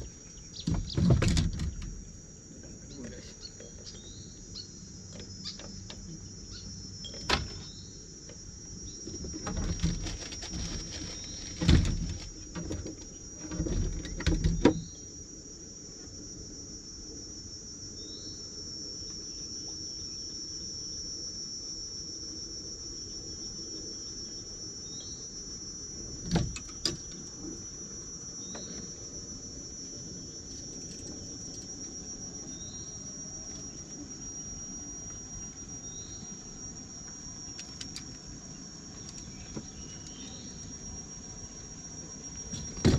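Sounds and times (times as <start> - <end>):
high-pitched insect drone: 0.0 - 42.9.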